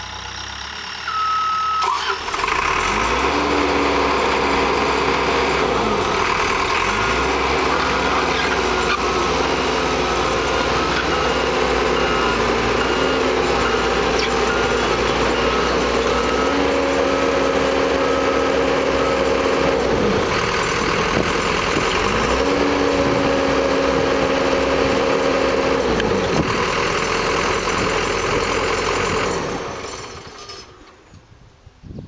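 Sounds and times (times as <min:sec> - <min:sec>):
skid steer engine straining: 0:00.0 - 0:31.2.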